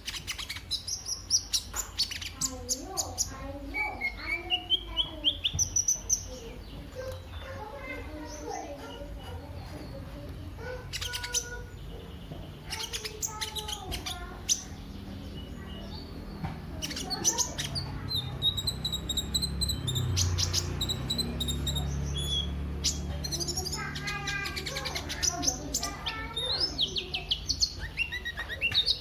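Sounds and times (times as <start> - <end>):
bird singing high chirps: 0.0 - 29.0.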